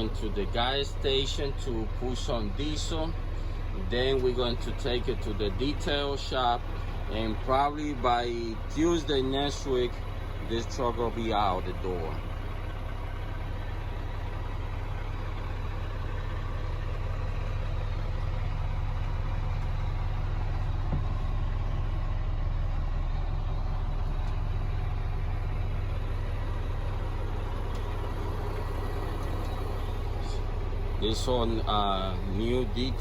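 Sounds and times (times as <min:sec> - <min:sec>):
truck diesel engine hum: 0:00.0 - 0:33.0.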